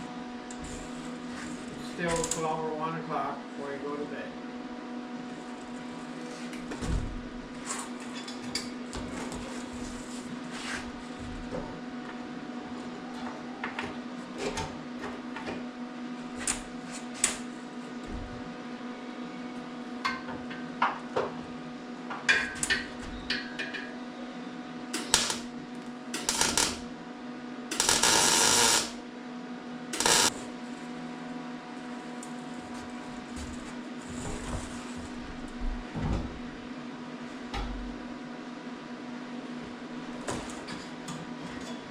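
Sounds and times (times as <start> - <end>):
steady electrical hum: 0.0 - 41.9.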